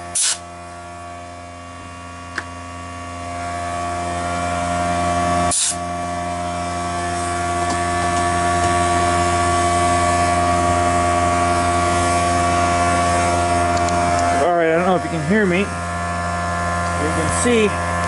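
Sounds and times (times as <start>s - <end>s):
vacuum motor humming: 0.0s - 18.0s.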